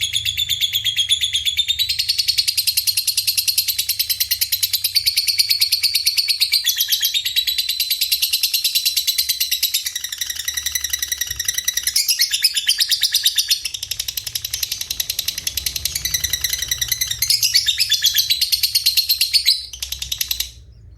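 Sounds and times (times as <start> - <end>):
cage birds singing: 0.0 - 20.9.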